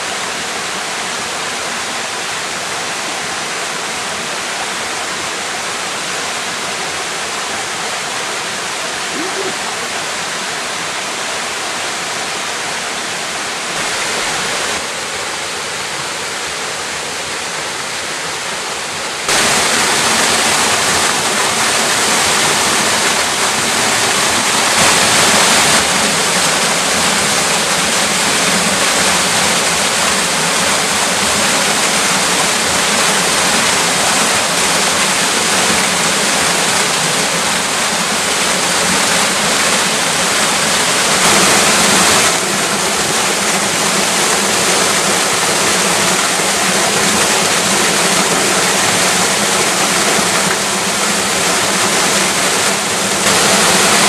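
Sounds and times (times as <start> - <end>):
waterfall splashing into pool: 0.0 - 54.0.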